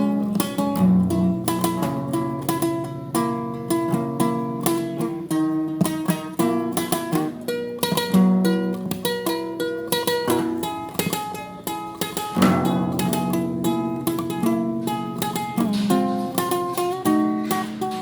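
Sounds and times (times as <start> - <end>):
solo guitar music: 0.0 - 18.0.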